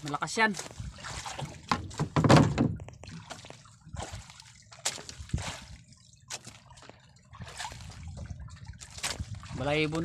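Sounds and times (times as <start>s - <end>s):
water splashing against boat hull: 0.0s - 10.0s.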